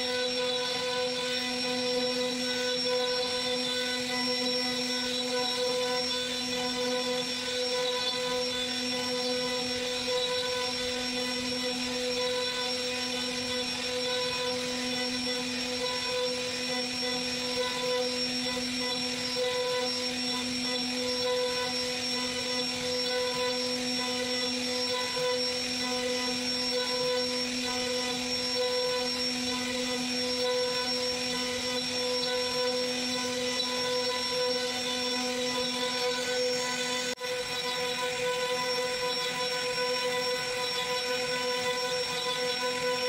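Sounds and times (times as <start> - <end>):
router spindle whining: 0.0 - 43.0.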